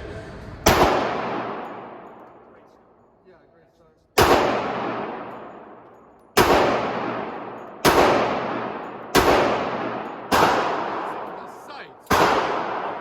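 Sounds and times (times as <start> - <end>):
pistol shots with echo: 0.6 - 2.6, 4.2 - 13.0.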